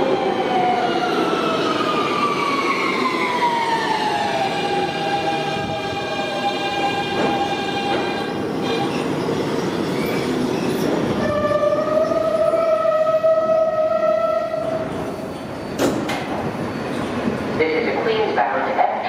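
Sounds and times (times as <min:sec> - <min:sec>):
subway train motors whining: 0:00.0 - 0:19.0.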